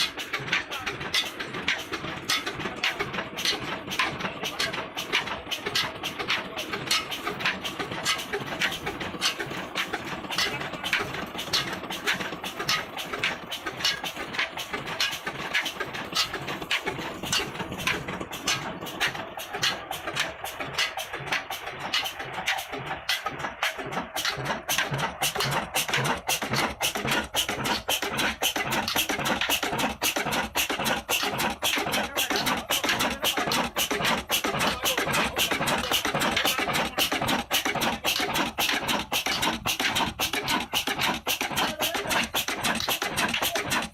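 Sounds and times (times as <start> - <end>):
diesel engine exhaust bangs: 0.0 - 43.9
mechanical rumble: 0.0 - 43.9.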